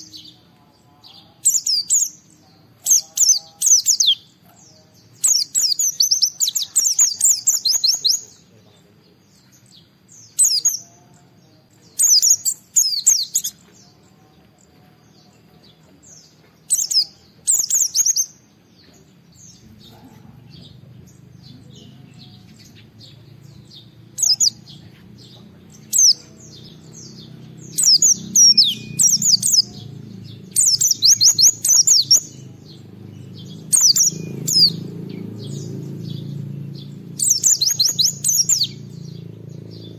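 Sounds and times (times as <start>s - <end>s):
bird chirping rapidly: 1.4s - 14.0s, 15.1s - 39.9s.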